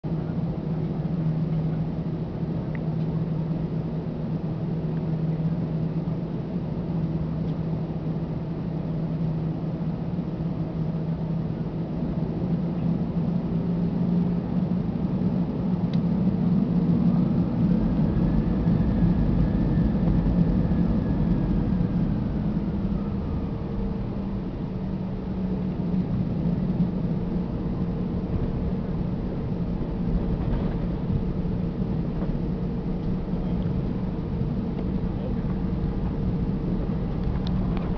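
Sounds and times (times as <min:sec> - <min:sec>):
airliner engines droning: 0:00.0 - 0:37.9
engine whine: 0:00.0 - 0:37.9.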